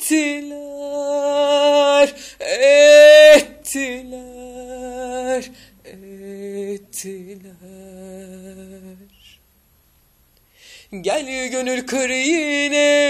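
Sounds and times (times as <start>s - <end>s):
woman singing unaccompanied: 0.0s - 9.4s, 11.0s - 13.0s.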